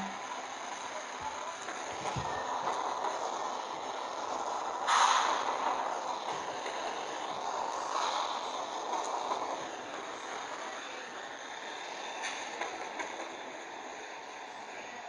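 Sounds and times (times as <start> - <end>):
train rolling noise: 0.0 - 15.0
wheels clicking over rails: 0.0 - 15.0.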